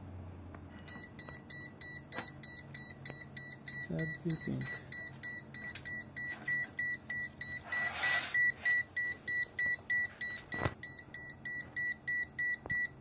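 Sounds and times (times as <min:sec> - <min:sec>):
high-pitched alarm beeps: 0:00.9 - 0:13.0.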